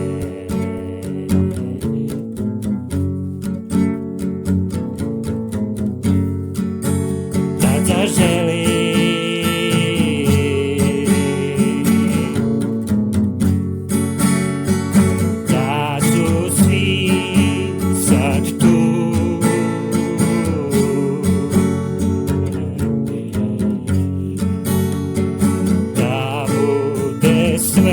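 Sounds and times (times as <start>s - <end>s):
strummed acoustic guitar: 0.0s - 27.9s.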